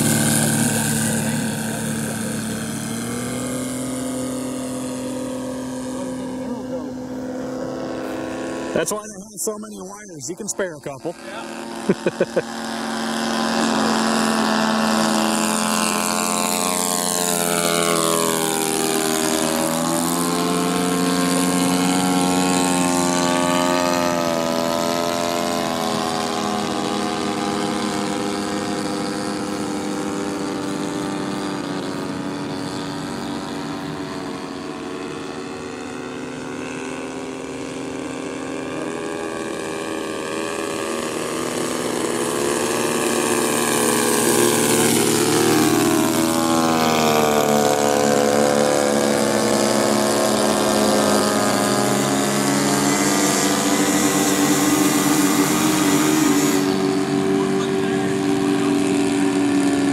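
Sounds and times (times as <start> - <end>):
model airplanes propeller buzz: 0.0 - 59.9.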